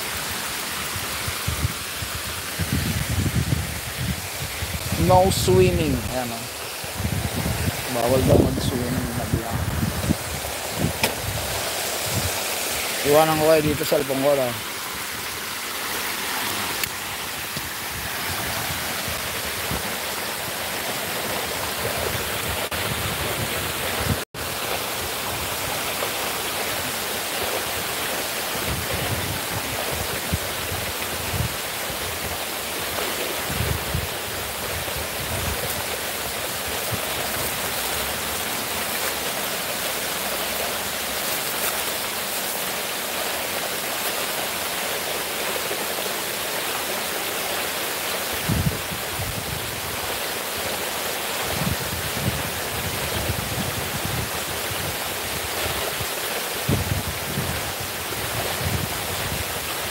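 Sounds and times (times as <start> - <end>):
fountain water spilling down steps: 0.0 - 59.9.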